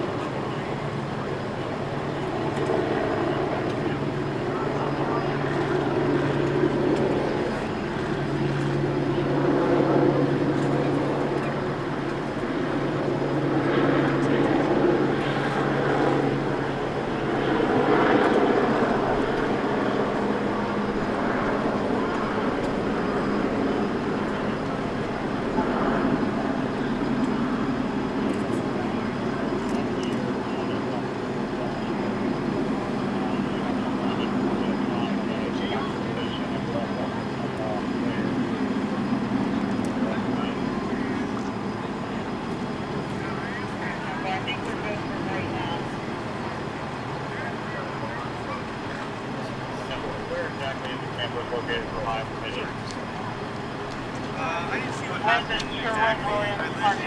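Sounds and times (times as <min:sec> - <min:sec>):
faint voices: 0:00.0 - 0:57.0.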